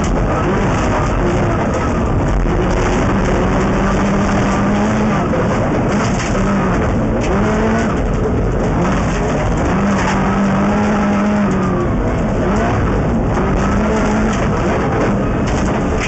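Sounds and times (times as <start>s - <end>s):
stones rattling against car body: 0.0s - 11.0s, 13.4s - 16.0s
rally car engine revving: 0.0s - 16.0s
tyres roaring on loose gravel: 0.0s - 16.0s.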